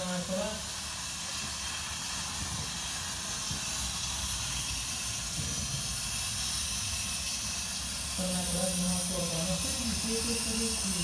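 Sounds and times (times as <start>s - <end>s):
steam hissing from locomotive: 0.0s - 11.0s.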